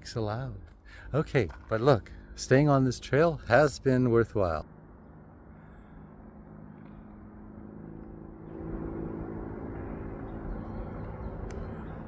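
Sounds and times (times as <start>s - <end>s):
motor vehicle traffic: 0.7s - 12.0s.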